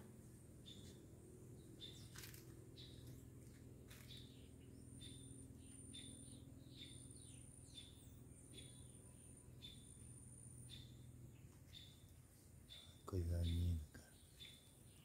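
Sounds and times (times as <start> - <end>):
bird chirping: 0.6 - 15.0.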